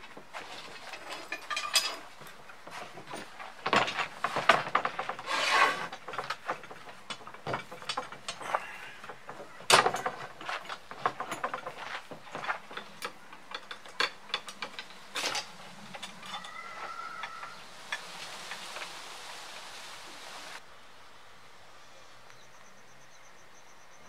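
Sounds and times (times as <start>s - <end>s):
wood rubbing and scraping: 0.0s - 20.6s.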